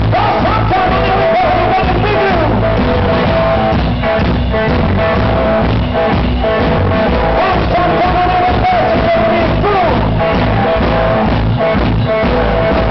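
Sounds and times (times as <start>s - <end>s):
drum kit beat: 0.0s - 12.9s
electric guitar: 0.0s - 12.9s.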